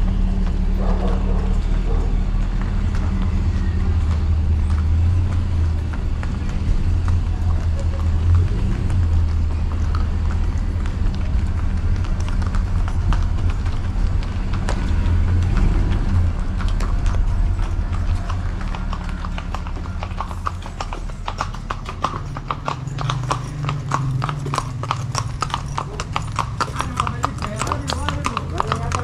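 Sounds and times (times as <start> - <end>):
horse hooves clip-clopping: 0.0 - 29.0.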